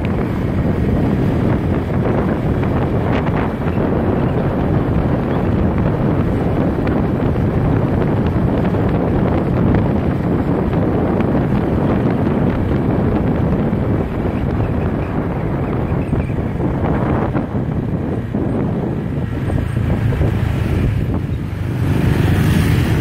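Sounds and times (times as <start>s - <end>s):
motorbike running: 0.0s - 23.0s
wind buffeting microphone: 0.0s - 23.0s.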